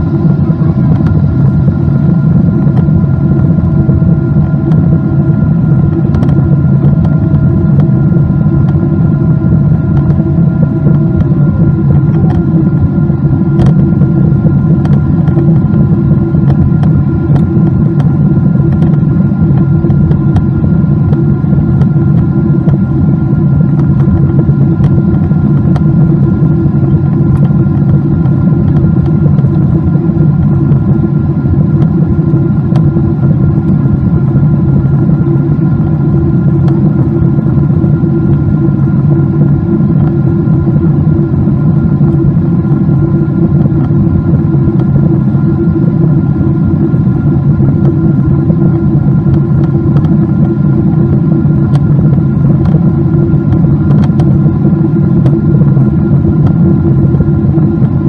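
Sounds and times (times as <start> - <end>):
airliner engines droning in cabin: 0.0 - 58.0.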